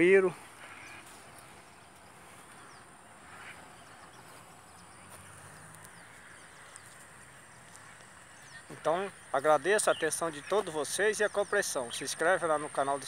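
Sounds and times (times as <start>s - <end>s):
distant birds chirping: 0.0s - 13.0s
low outdoor hiss: 0.0s - 13.0s.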